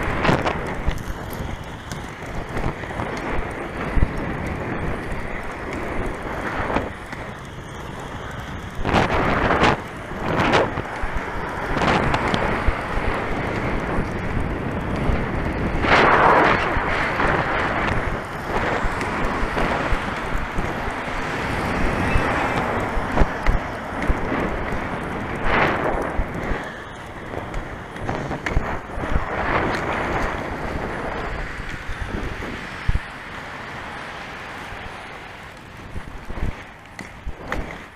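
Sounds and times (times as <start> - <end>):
skate wheels rolling on pavement: 0.0 - 37.9
wind rushing over microphone: 0.0 - 37.9.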